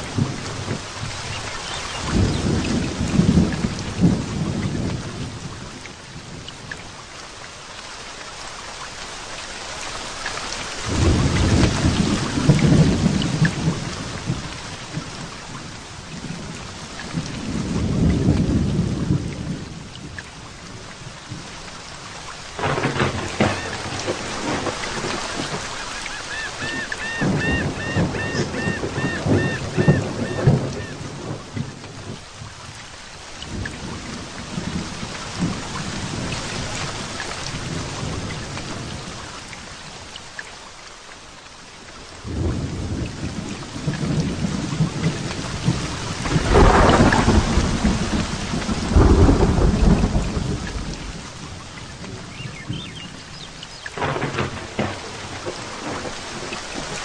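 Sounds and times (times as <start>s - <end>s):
thunder rumbling: 0.0s - 6.5s, 10.9s - 21.5s, 22.4s - 32.8s, 33.5s - 39.2s, 42.2s - 53.3s, 54.0s - 57.0s
heavy rain falling: 0.0s - 57.0s.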